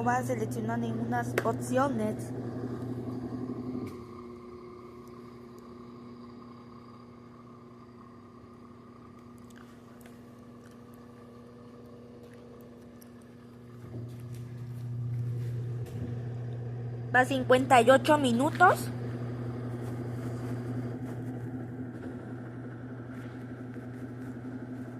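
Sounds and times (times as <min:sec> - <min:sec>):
washing machine motor hum: 0:00.0 - 0:24.9.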